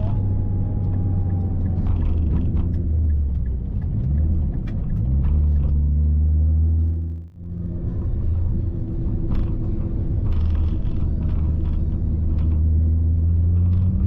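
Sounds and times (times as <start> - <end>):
car engine droning while driving: 0.0 - 14.0.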